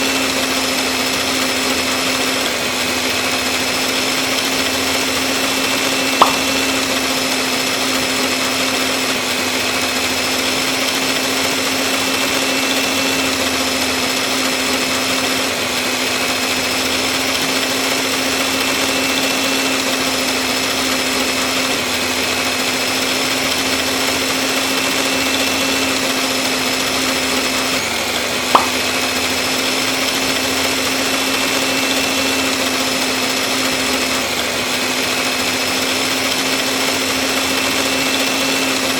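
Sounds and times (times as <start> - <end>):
small motor running: 0.0 - 38.9.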